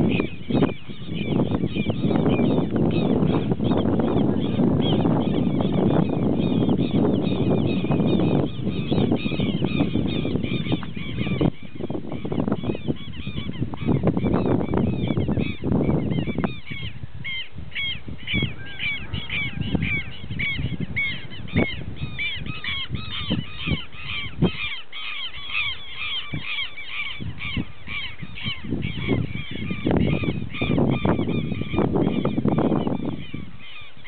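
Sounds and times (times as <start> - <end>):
birds calling harshly: 0.0 - 34.0.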